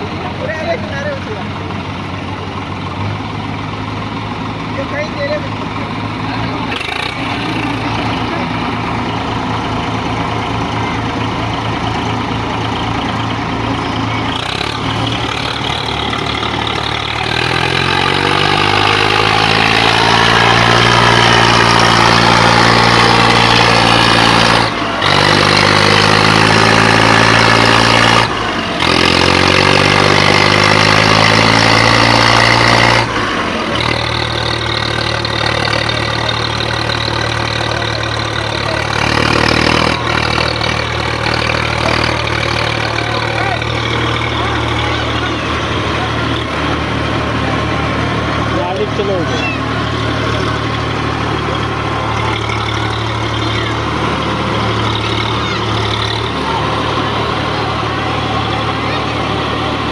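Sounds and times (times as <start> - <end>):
tractor diesel engines revving: 0.0 - 59.9.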